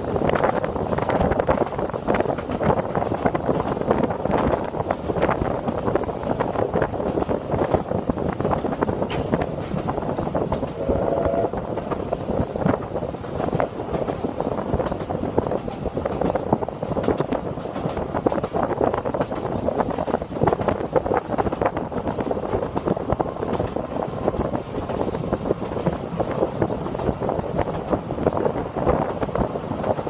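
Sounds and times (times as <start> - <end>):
train wheels clattering over rails: 0.0 - 30.0.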